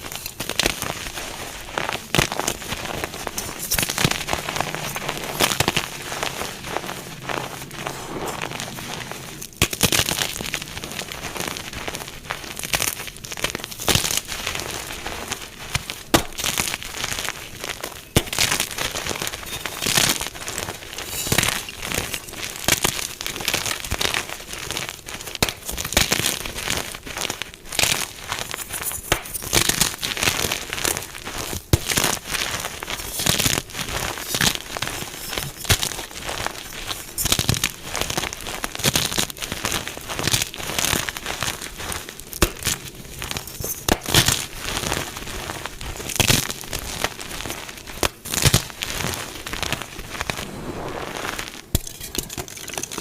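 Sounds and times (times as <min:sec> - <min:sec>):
chalk blocks crunching: 0:00.0 - 0:50.6.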